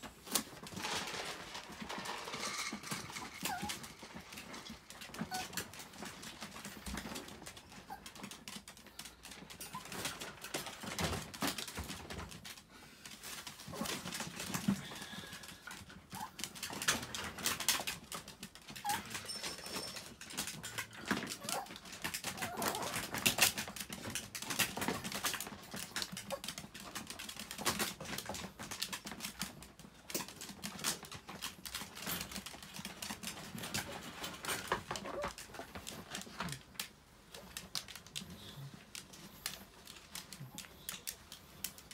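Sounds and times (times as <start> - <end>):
wire crates clicking and rattling: 0.0 - 41.9.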